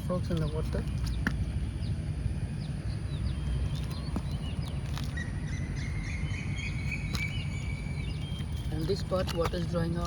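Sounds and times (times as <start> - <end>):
bird chirps: 0.1 - 10.0.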